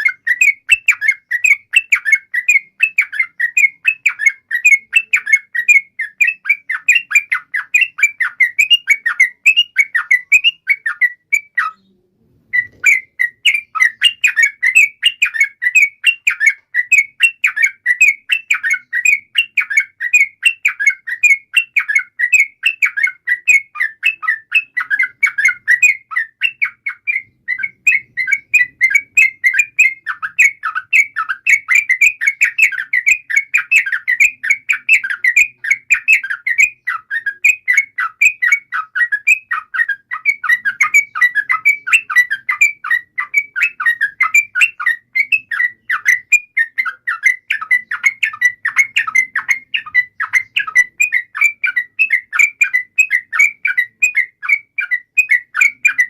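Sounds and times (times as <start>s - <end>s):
bulbuls singing: 0.0s - 56.0s.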